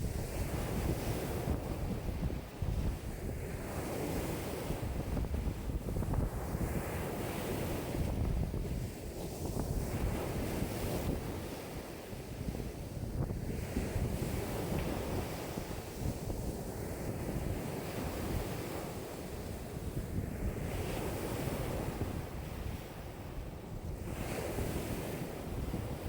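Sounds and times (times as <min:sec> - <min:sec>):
lake waves washing in: 0:00.0 - 0:26.0
wind buffeting microphone: 0:00.0 - 0:26.0.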